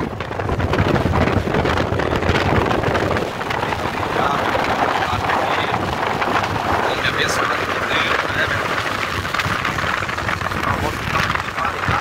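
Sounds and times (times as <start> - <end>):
motorcycle and road rumble: 0.0 - 12.0
wind buffeting microphone: 0.0 - 12.0.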